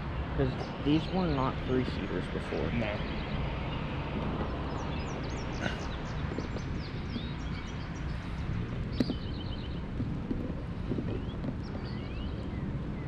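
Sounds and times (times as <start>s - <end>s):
birds chirping: 0.0s - 13.0s
wind rumble on microphone: 0.0s - 13.0s.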